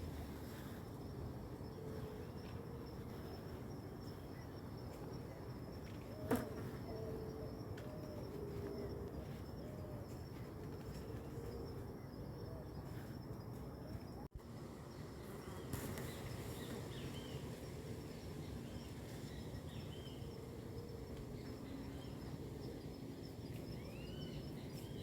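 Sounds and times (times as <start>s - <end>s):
high insect trill: 0.0s - 25.0s.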